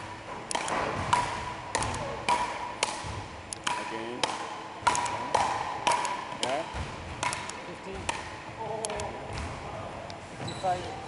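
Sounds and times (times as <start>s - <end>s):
paddles hitting ball: 0.0s - 9.7s.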